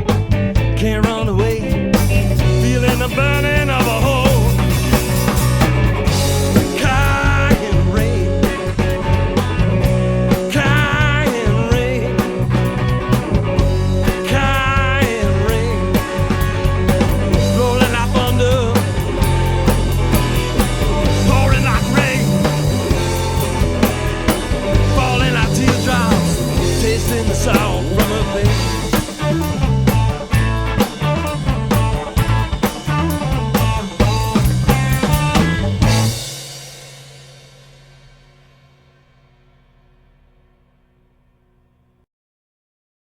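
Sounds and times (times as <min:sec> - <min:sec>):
lead melody with bending notes: 0:00.0 - 0:36.6
bass line: 0:00.0 - 0:37.6
drum kit with cymbals: 0:00.0 - 0:40.5.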